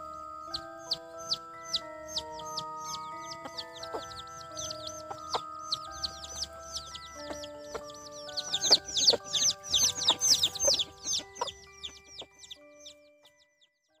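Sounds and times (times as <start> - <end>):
chicks peeping: 0.0 - 13.4
background music of held notes: 0.0 - 14.0
hen clucking: 0.8 - 12.5.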